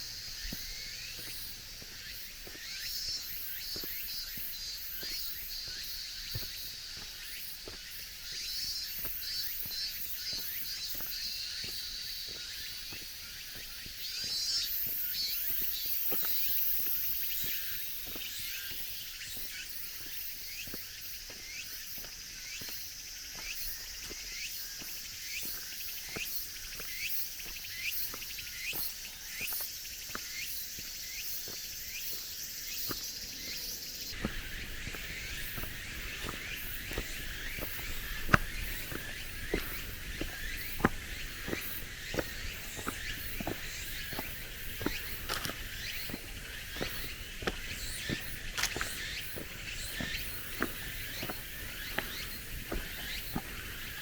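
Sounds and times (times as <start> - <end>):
cicadas buzzing: 0.0 - 54.0
footsteps on forest path: 0.0 - 54.0.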